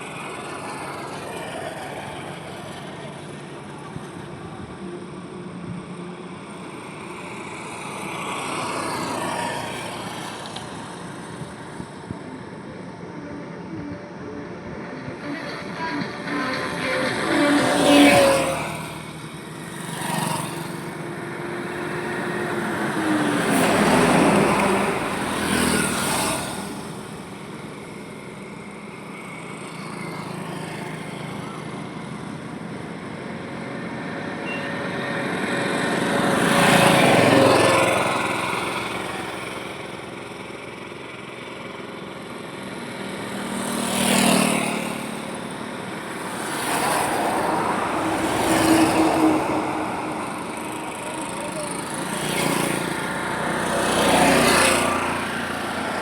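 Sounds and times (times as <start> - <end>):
steady road hum: 0.0 - 56.0
vehicles passing: 0.0 - 56.0.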